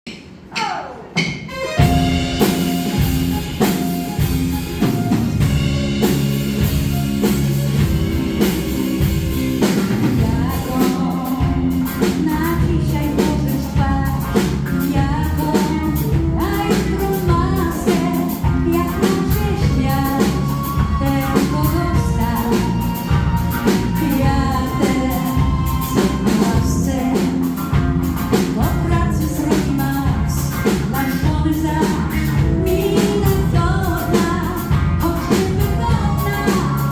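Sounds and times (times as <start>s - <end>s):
drum kit beat: 0.1s - 36.9s
pop band playing live: 0.6s - 36.9s.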